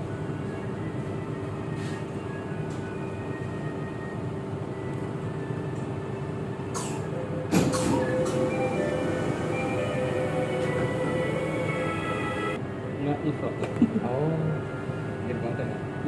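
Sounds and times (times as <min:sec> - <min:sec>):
metro carriage running rumble: 0:00.0 - 0:16.0.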